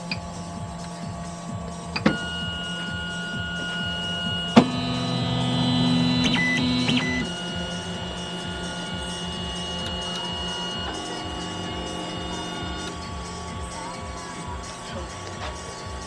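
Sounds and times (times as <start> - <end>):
three d printer motors whining: 0.0 - 16.0.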